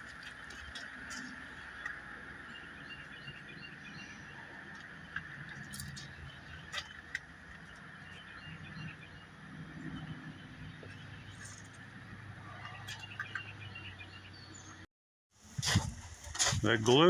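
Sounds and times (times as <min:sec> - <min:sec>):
bird chirps: 0:00.2 - 0:11.8, 0:12.5 - 0:14.8.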